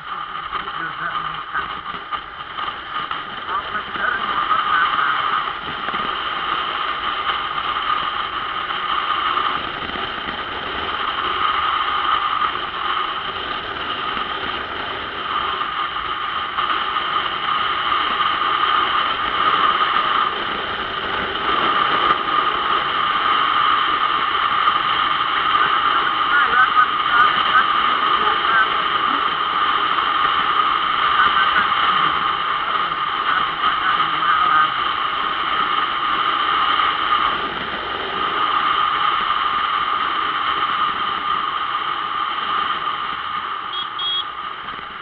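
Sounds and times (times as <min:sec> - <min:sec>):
motorcycle road noise: 0:00.0 - 0:45.0
wind rushing on microphone: 0:00.0 - 0:45.0.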